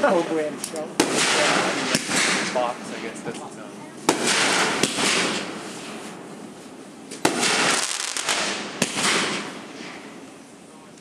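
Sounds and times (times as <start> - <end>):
firework hiss: 0.0 - 6.2, 7.1 - 10.5
fireworks exploding: 0.0 - 6.2, 7.1 - 10.4.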